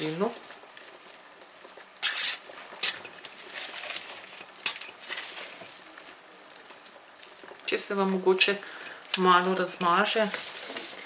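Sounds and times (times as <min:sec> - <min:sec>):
spoon patting thick filling: 0:00.0 - 0:11.0.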